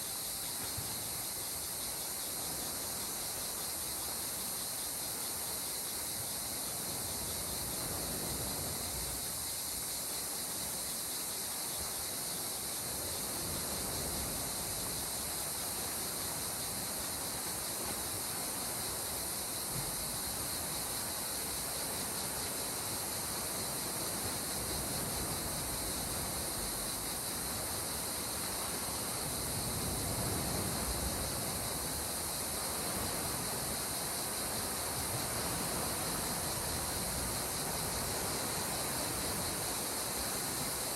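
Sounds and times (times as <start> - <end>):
steady high-pitched hiss: 0.0 - 40.9.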